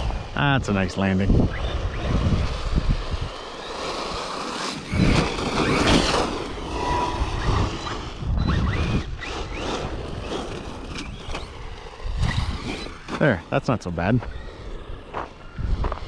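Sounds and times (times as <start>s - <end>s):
rc truck motor whining: 0.0s - 13.5s, 14.1s - 16.0s.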